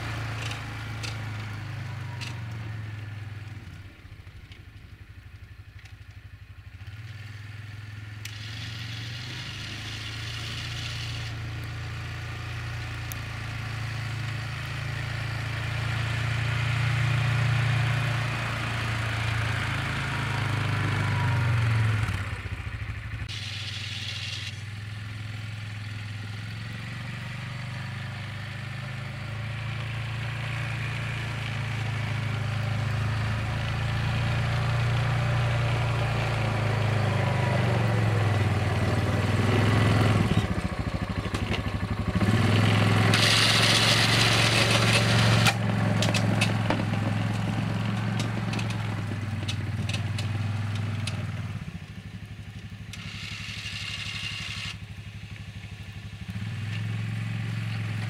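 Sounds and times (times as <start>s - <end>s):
atv engine running under load: 0.0s - 58.0s.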